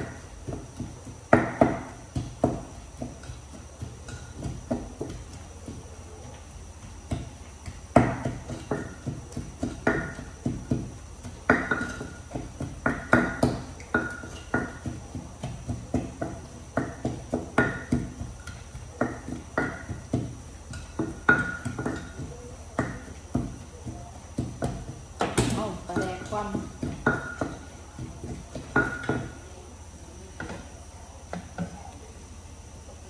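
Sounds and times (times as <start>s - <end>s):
wooden pestle pounding in mortar: 0.0s - 29.5s.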